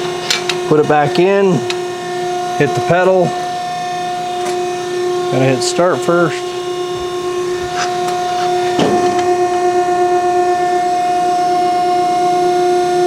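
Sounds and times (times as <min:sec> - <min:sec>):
hydraulic pump whine: 0:00.0 - 0:13.0.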